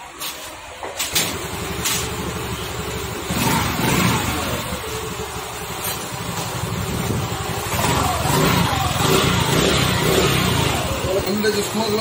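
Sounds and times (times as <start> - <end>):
engine revving: 1.2 - 12.0
scooter engine running: 1.2 - 12.0.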